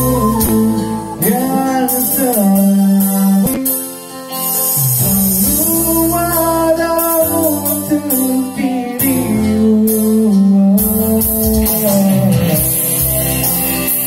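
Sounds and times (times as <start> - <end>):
bass notes: 0.0 - 3.6, 4.7 - 14.0
electric guitar: 0.0 - 14.0
electronic keyboard: 0.0 - 14.0
man singing into a microphone: 0.0 - 14.0.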